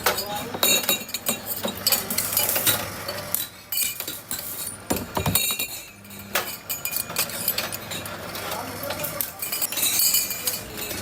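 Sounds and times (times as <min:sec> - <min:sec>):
hard objects clinking and rattling: 0:00.0 - 0:11.0.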